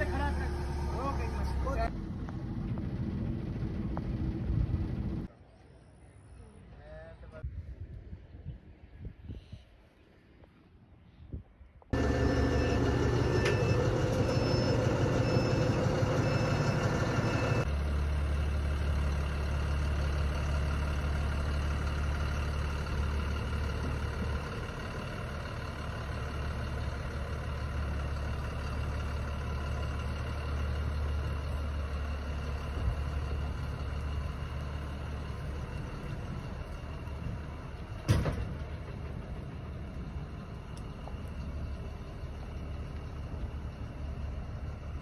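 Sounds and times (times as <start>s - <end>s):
tractor diesel engine running: 0.0s - 5.3s, 11.9s - 45.0s.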